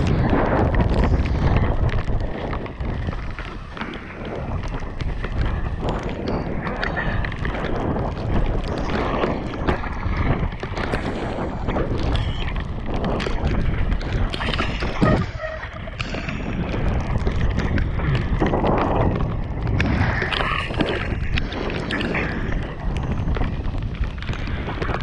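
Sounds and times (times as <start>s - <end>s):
bike knocking and rattling: 0.0s - 25.0s
bike tyre noise on dirt: 0.0s - 25.0s
wind buffeting microphone: 0.0s - 25.0s.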